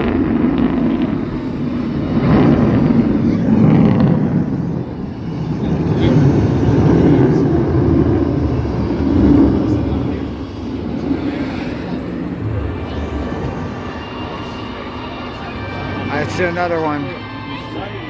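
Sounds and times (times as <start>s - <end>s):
jet planes passing: 0.0s - 18.0s.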